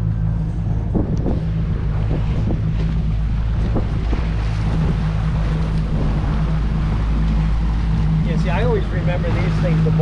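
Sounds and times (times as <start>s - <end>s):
outboard motor humming: 0.0s - 10.0s
water rushing along hull: 0.0s - 10.0s
wind on microphone: 0.0s - 10.0s.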